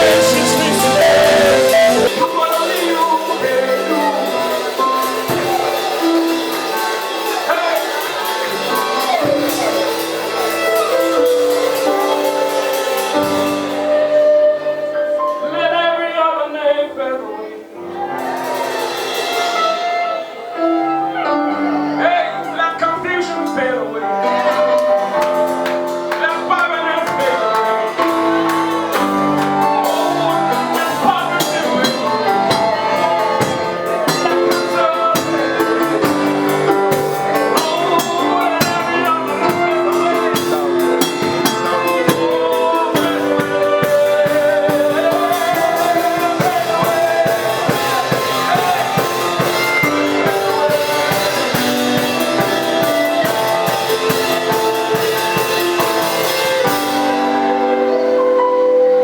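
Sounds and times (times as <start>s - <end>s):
drum kit: 0.0s - 14.7s, 17.9s - 21.9s, 24.2s - 58.5s
cymbals: 0.0s - 15.5s, 18.0s - 22.6s, 24.1s - 59.0s
person singing: 0.0s - 19.9s, 20.6s - 59.0s
band playing praise music: 0.0s - 59.0s
guitar: 0.0s - 59.0s.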